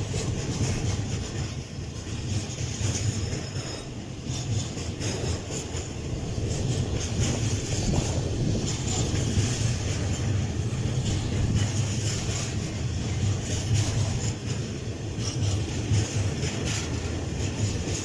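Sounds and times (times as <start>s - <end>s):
faint rail clicks: 0.0s - 18.0s
freight train rumbling past: 0.0s - 18.0s.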